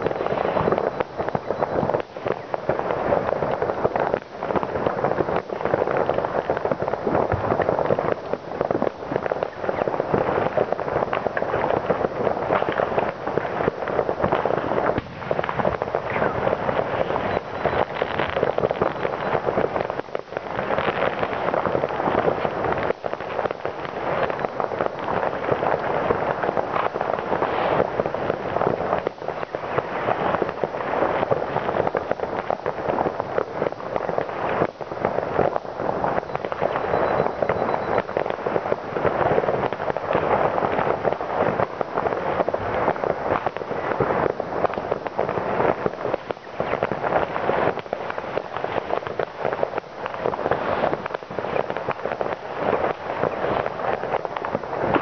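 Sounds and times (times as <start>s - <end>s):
fireworks and firecrackers crackling: 0.0s - 55.0s.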